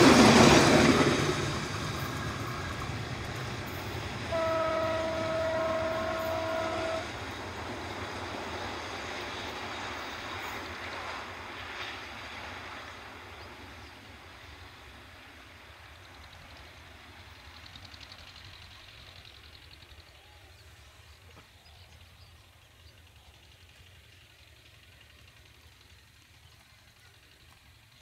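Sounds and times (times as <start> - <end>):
passenger train rumble: 0.0 - 28.0.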